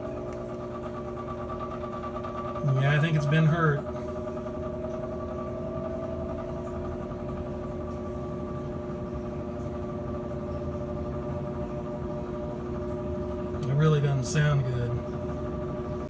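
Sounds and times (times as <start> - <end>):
furnace blower motor humming: 0.0 - 16.0.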